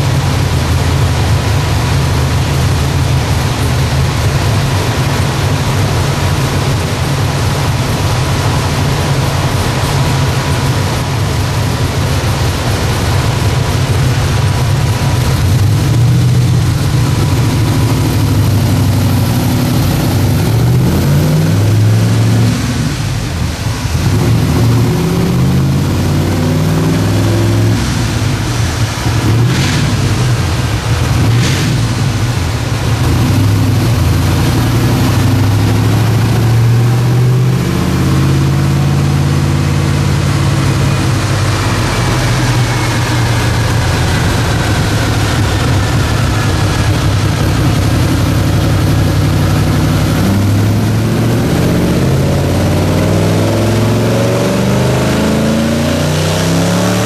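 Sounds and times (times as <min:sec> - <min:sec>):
turbo engine revving on dyno: 0:00.0 - 0:57.0.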